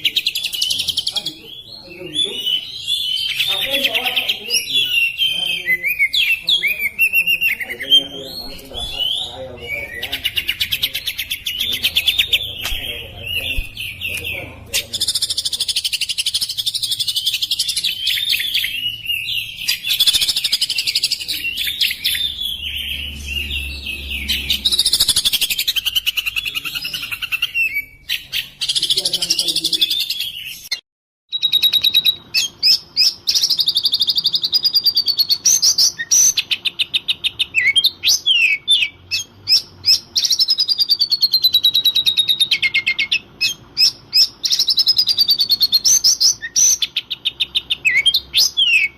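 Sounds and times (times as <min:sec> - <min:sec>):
bird singing whistles and trills: 0:00.0 - 0:48.9.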